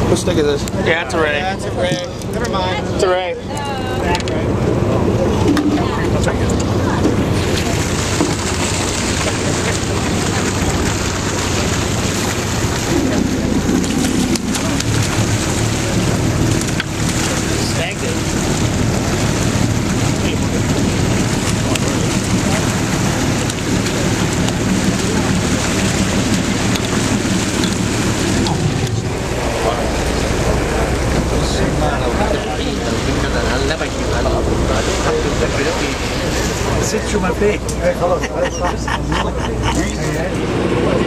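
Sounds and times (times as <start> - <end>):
water splashing against boat: 0.0 - 41.0.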